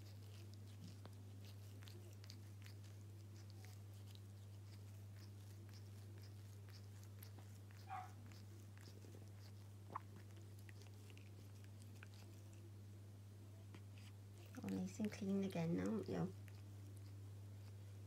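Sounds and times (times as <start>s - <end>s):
cat licking itself: 0.0s - 12.7s, 13.7s - 18.0s
steady low hum: 0.0s - 18.0s.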